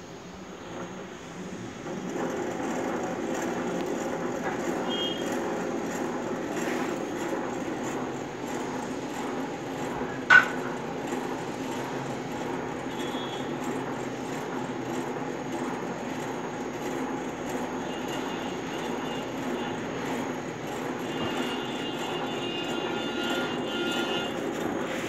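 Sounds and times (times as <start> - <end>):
stirring motor humming: 0.5 - 25.0.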